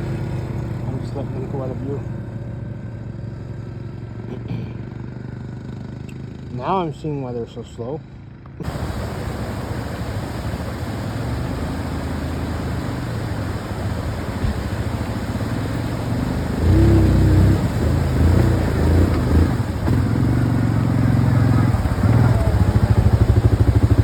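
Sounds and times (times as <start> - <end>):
atv engine droning and revving: 0.0 - 24.0.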